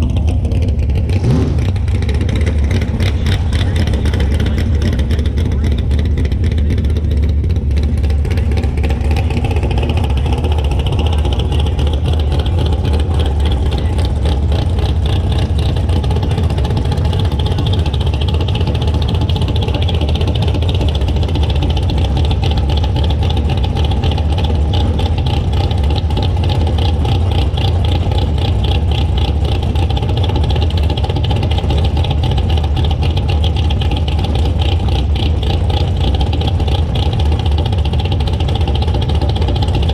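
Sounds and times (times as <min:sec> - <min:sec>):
car engine idling loud: 0:00.0 - 0:39.9.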